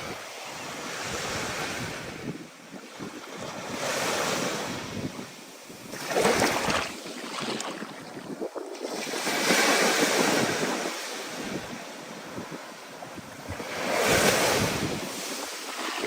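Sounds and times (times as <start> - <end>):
ocean waves breaking: 0.0 - 16.0
wind: 0.0 - 16.0.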